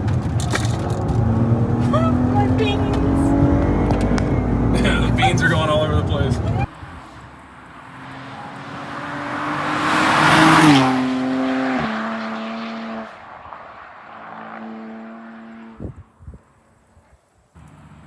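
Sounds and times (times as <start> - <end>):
car driving past at speed: 0.8 - 16.1.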